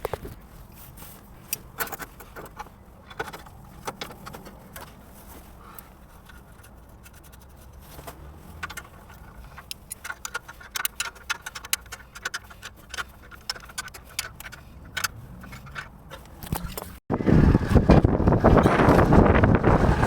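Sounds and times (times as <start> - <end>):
clicks and scrapes of handled tools: 0.0 - 17.0.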